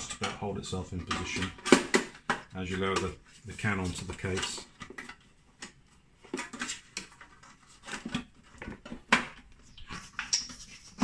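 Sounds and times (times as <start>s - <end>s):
metal can clattering on plastic: 0.0s - 9.5s.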